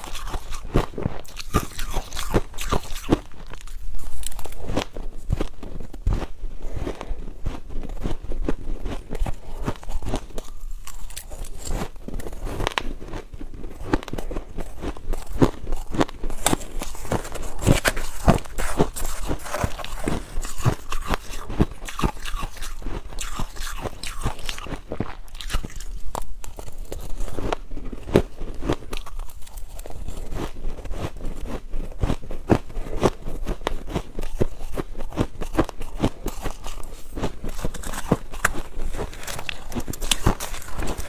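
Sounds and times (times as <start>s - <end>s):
ice crunching between teeth: 0.0s - 41.0s.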